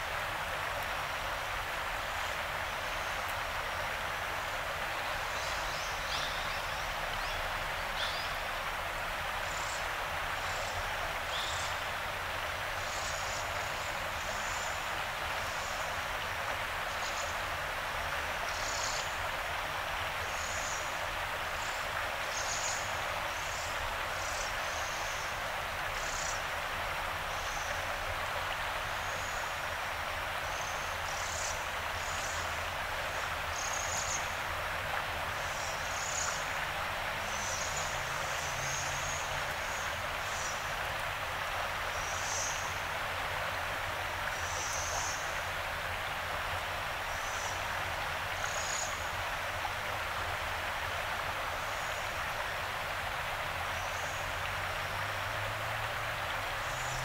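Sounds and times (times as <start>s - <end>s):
flowing river water: 0.0s - 57.0s.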